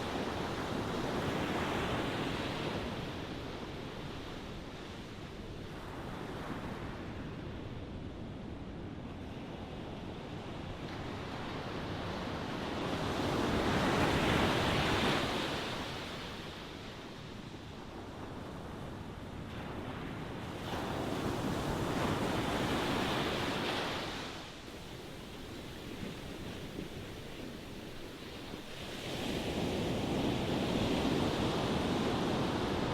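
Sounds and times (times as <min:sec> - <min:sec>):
ocean waves washing ashore: 0:00.0 - 0:32.9.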